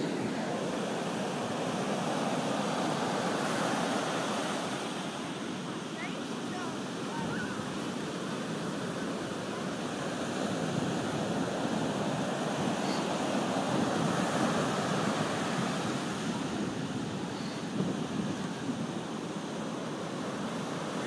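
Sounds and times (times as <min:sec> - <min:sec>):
surf washing up a beach: 0:00.0 - 0:21.0.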